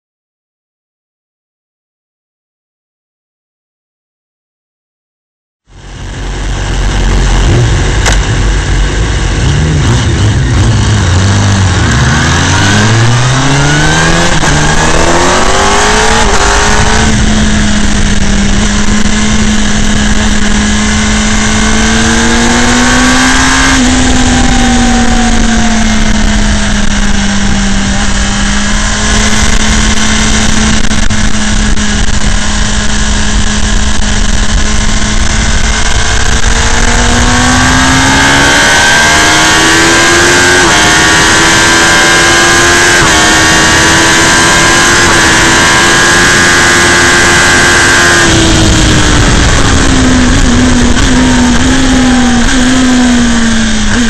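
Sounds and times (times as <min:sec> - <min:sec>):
motorcycle engine accelerating: 0:05.7 - 0:54.0
wind rumble on microphone: 0:05.8 - 0:54.0.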